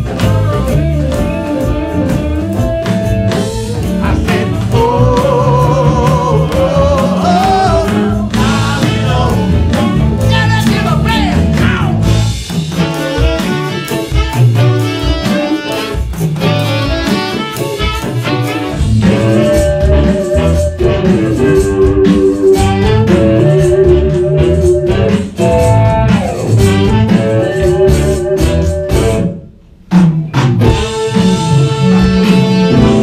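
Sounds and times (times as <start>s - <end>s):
electric guitar wavering notes: 0.0s - 29.4s, 30.6s - 33.0s
rock band playing blues-rock: 0.0s - 33.0s.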